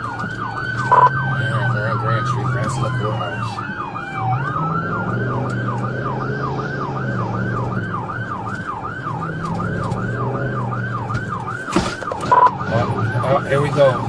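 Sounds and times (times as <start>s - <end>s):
low vehicle hum: 0.0s - 14.0s
police siren yelping: 0.0s - 14.0s.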